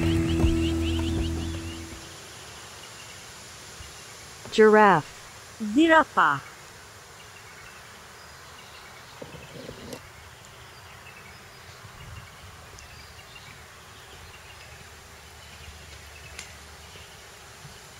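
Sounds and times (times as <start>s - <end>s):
steady insect hiss: 0.0s - 17.9s.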